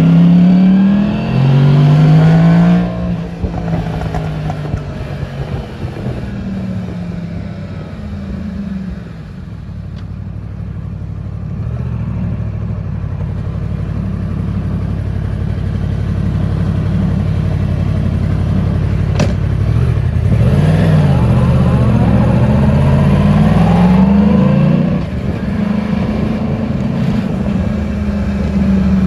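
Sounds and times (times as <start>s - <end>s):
motorcycle engine idling: 1.0s - 29.0s.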